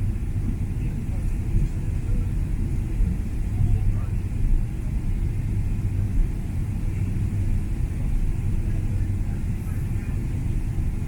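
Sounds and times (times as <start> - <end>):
engines rumbling: 0.0 - 11.0.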